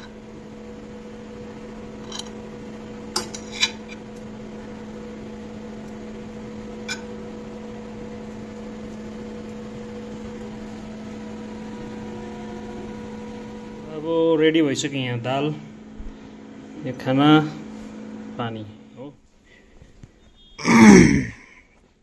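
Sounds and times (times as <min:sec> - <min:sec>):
electrical appliance hum: 0:00.0 - 0:21.6.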